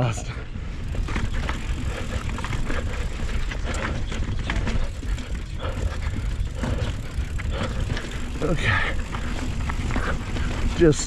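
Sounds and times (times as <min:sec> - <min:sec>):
rider breathing hard: 0:00.2 - 0:10.8
bike tyres rolling over rock: 0:00.6 - 0:11.0
bike knocks and rattles: 0:00.7 - 0:11.0.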